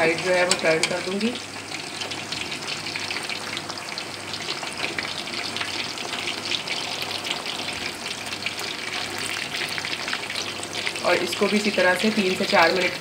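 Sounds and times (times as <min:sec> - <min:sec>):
oil crackling and sizzling: 0:00.0 - 0:13.0.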